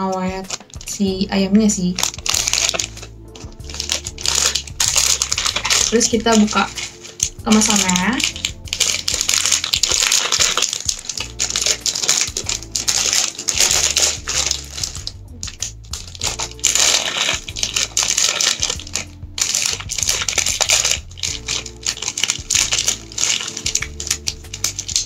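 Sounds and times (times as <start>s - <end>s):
background music with bass: 0.0s - 25.0s
plastic packaging crinkling: 0.0s - 25.0s.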